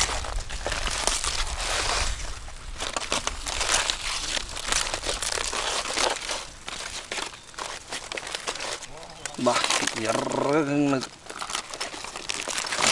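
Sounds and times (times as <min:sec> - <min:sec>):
aluminium foil crinkling: 0:00.0 - 0:12.9.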